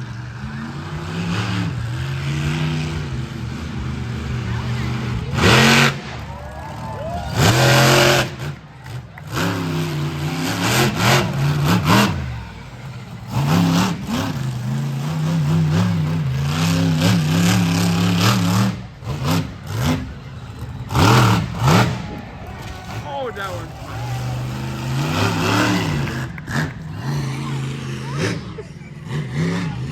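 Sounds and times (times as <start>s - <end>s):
loud blasts of noise: 0.0s - 29.9s
truck engine revving: 0.0s - 29.9s.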